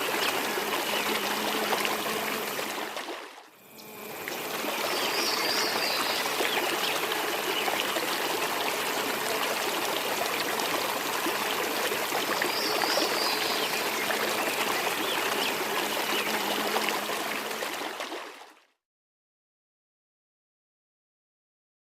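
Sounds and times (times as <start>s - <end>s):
water rushing over rocks: 0.0s - 3.4s, 4.0s - 18.4s.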